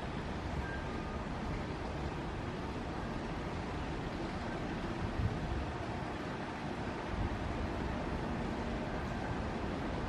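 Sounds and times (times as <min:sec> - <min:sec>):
distant train rumble and hiss: 0:00.0 - 0:10.0.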